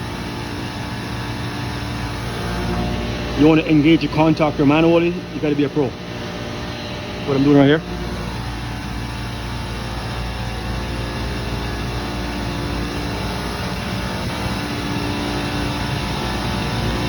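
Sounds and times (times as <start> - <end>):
chiller machine hum: 0.0 - 17.0.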